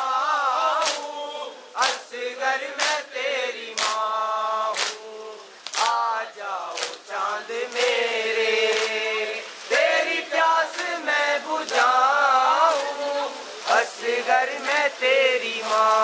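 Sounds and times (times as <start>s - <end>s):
group chanting a lament: 0.0s - 16.0s.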